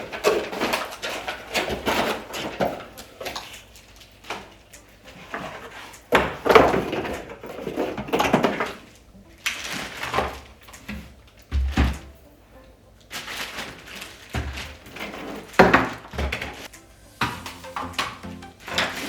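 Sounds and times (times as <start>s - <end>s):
cardboard and plastic rustling: 0.0s - 12.3s, 13.0s - 16.7s.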